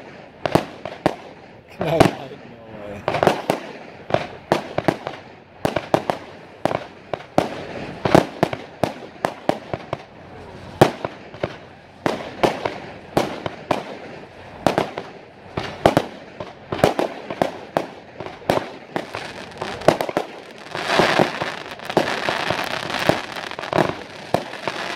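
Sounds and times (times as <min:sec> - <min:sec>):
fireworks bangs: 0:00.0 - 0:24.9
fireworks crackling: 0:00.0 - 0:24.9.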